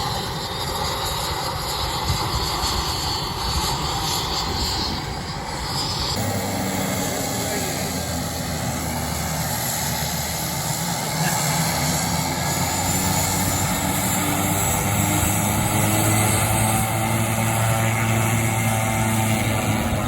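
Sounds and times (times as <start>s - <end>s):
propeller aircraft engine: 0.0s - 20.0s.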